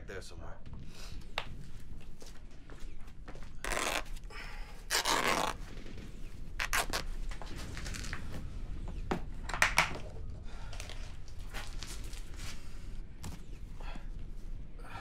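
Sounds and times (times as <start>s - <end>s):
cloth and supplies rustling: 0.7s - 14.6s.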